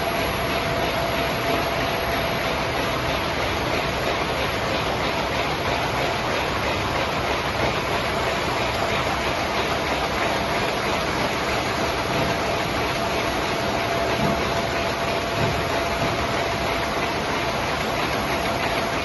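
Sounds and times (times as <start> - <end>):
machine noise with steady whine: 0.0 - 19.0.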